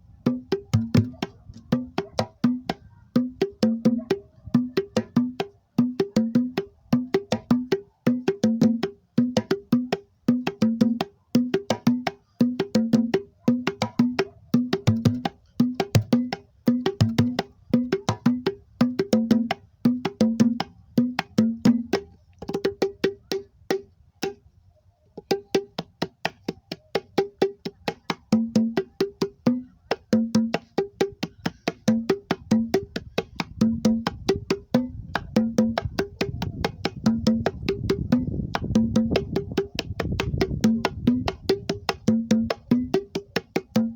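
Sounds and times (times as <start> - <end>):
hand drums playing fast rhythm: 0.2 - 24.4, 25.2 - 43.9.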